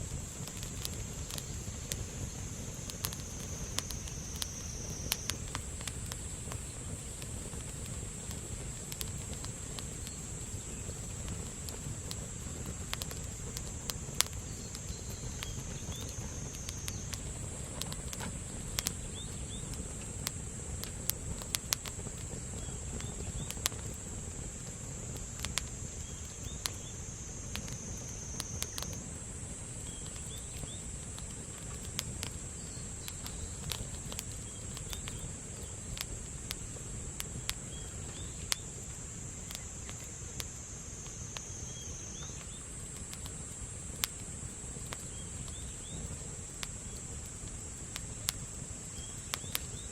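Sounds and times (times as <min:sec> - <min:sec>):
campfire crackling and popping: 0:00.0 - 0:49.9
insect trill: 0:00.0 - 0:49.9.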